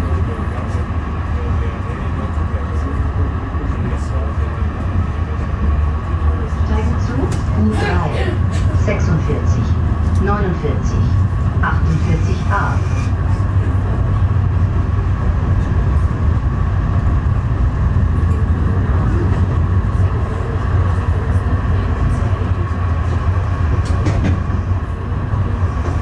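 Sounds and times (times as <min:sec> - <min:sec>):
tram rumbling on tracks: 0:00.0 - 0:26.0.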